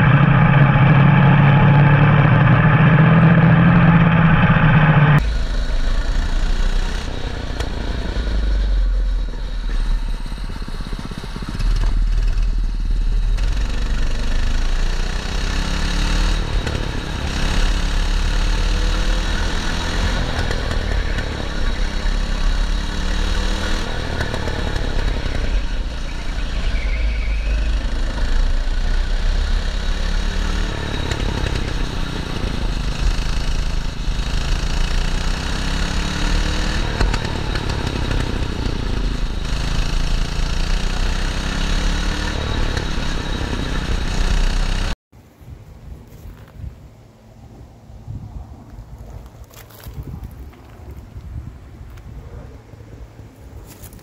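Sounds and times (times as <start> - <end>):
kart engine revving: 0.0 - 45.0.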